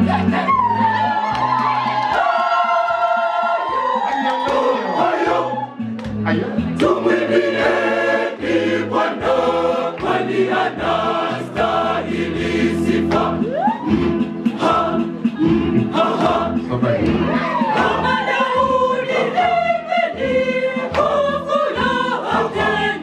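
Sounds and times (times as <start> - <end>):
choir singing gospel: 0.0 - 6.0, 6.6 - 23.0.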